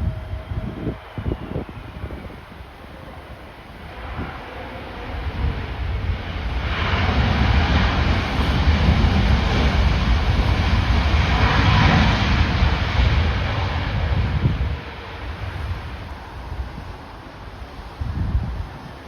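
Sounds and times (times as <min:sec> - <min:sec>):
jet airliner engine roar: 0:00.0 - 0:19.0
storm wind buffeting microphone: 0:00.0 - 0:19.0.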